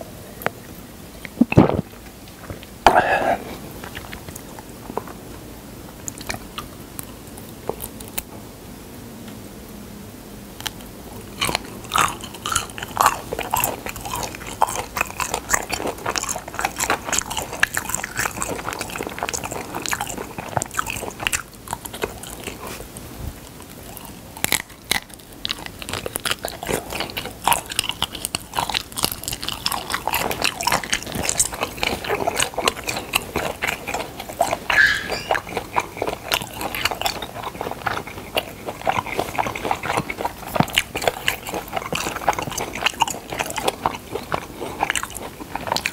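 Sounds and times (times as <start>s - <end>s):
person chewing wet mouth sounds: 1.2s - 5.2s, 5.9s - 8.2s, 10.6s - 45.9s.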